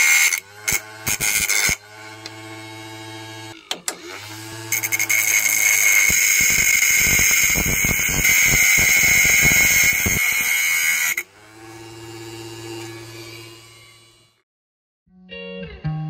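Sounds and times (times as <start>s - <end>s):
angle grinder cutting metal rod: 0.0s - 14.4s.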